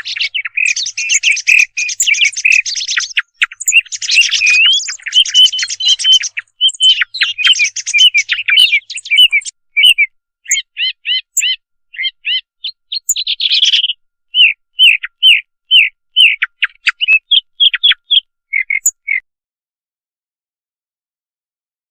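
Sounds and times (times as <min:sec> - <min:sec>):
thrush song chirps and whistles: 0:00.0 - 0:19.2.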